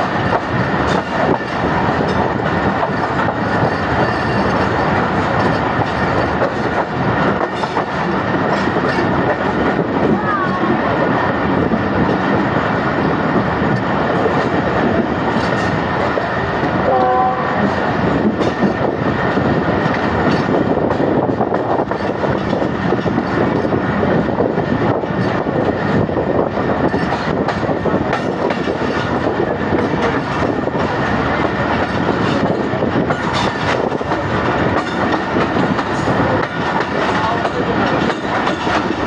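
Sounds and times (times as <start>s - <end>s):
train wheels rattling on rails: 0.0s - 39.0s.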